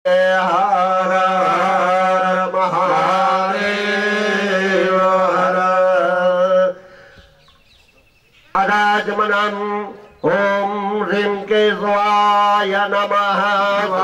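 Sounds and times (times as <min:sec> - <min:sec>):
mantra chanting: 0:00.1 - 0:06.9, 0:08.5 - 0:14.0.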